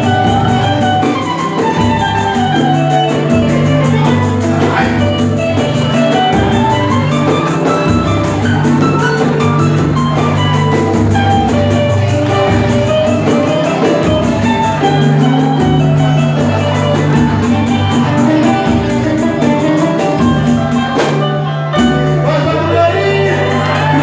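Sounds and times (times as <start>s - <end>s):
instrumental band music: 0.0s - 24.0s.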